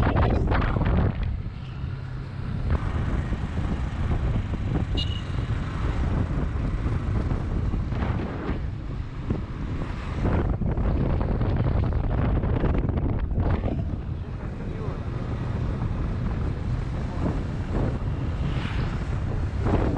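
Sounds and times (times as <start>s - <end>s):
road noise: 0.0s - 19.9s
wind rushing over microphone: 0.0s - 19.9s
motorcycle engine: 0.8s - 19.9s.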